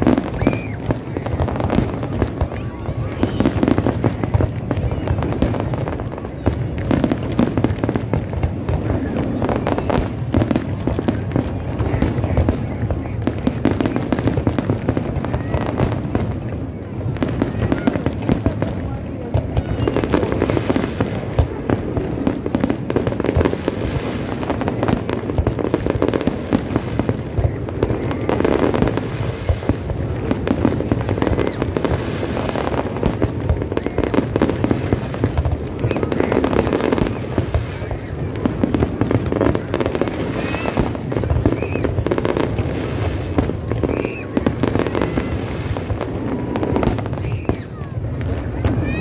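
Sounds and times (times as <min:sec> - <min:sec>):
crowd voices: 0:00.0 - 0:49.0
fireworks bangs and crackles: 0:00.0 - 0:49.0.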